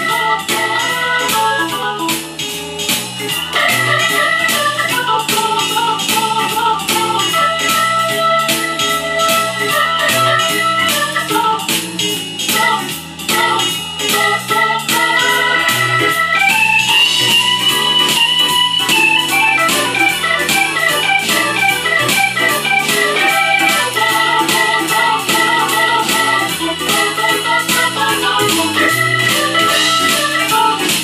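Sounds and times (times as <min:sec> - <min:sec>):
organ playing blues melody: 0:00.0 - 0:31.0
steady drum beat: 0:00.0 - 0:31.0
stepping bass line: 0:00.0 - 0:31.0.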